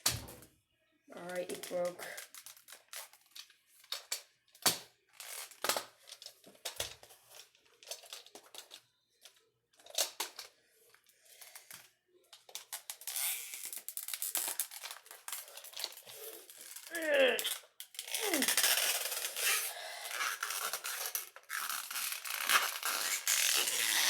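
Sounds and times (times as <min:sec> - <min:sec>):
hard plastic cracking: 0:01.2 - 0:24.0
plastic clicks creaks and scrapes: 0:01.2 - 0:24.0.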